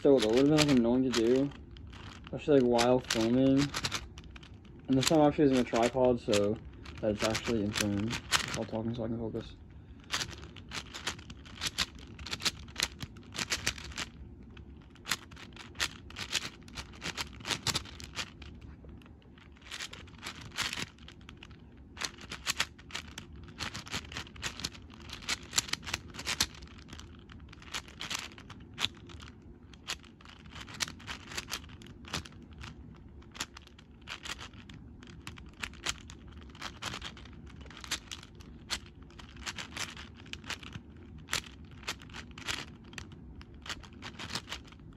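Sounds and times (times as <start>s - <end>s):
speedcube plastic clicking: 0.0s - 8.7s, 10.0s - 14.2s, 14.9s - 18.6s, 19.4s - 44.8s.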